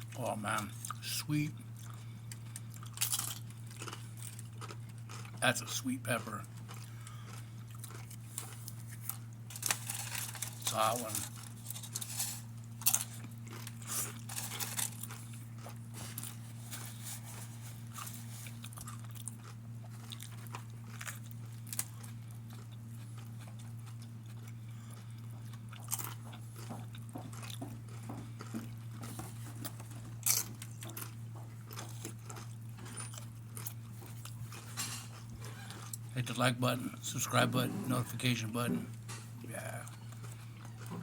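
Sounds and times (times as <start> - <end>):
low electrical hum: 0.0 - 41.0
person chewing and crunching food: 0.0 - 41.0.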